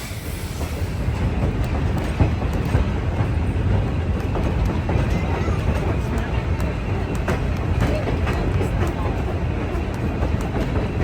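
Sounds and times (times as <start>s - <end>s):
train car rumbling: 0.0s - 11.0s.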